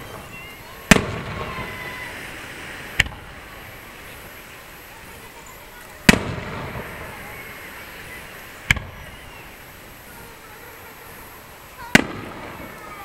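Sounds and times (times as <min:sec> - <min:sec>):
firework shells bursting: 0:00.0 - 0:10.1, 0:11.0 - 0:13.0.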